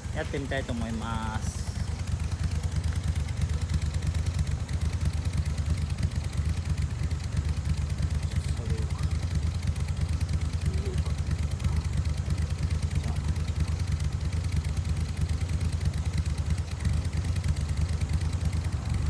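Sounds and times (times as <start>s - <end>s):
car exhaust idling: 0.0s - 19.0s.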